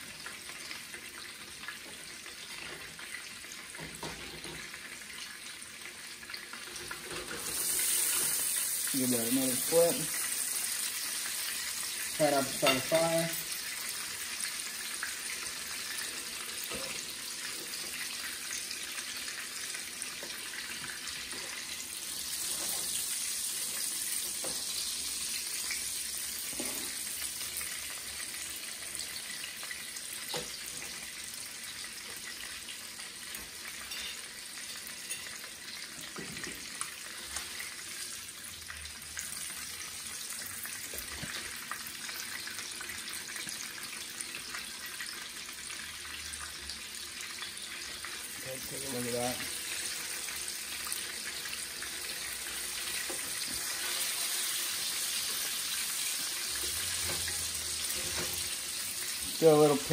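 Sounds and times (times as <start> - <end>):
steak sizzling in hot oil: 0.0 - 59.9.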